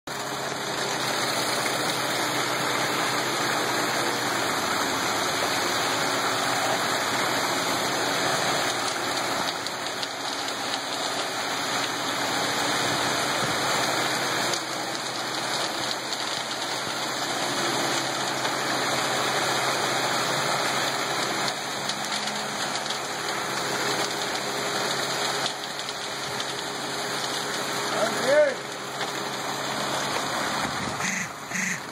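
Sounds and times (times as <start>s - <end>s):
wet concrete rushing down chute: 0.1s - 31.5s
truck engine humming: 0.1s - 31.9s.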